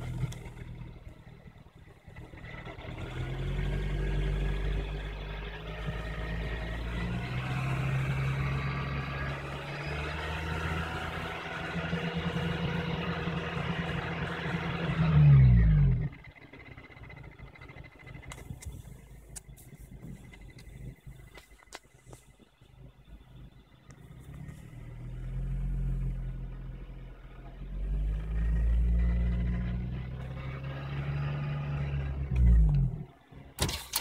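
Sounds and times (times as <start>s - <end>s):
car engine hum: 0.0s - 34.0s.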